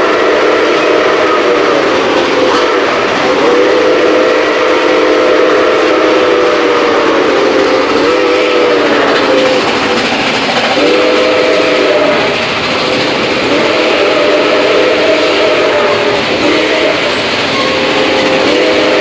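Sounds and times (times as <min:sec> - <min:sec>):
steam whistle blowing: 0:00.0 - 0:09.6, 0:10.8 - 0:12.4, 0:13.4 - 0:19.0
moving train noise: 0:00.0 - 0:19.0.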